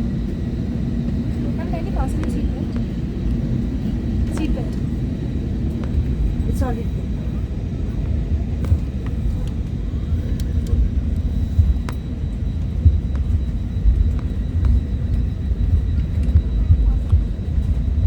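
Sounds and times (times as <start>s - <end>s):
aircraft cabin rumble: 0.0s - 18.0s.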